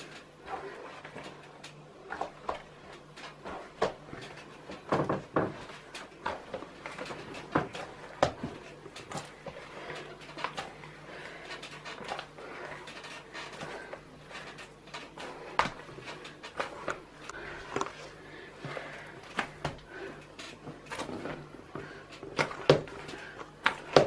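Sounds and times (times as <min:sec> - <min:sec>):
hands kneading dough: 0:00.0 - 0:24.0
low machine hum: 0:00.0 - 0:24.0.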